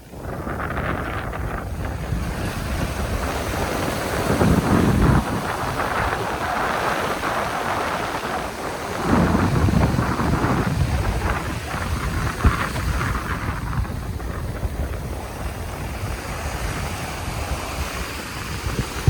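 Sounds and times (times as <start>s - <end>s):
surf on a beach: 0.0s - 19.0s
wind buffeting microphone: 0.0s - 19.0s.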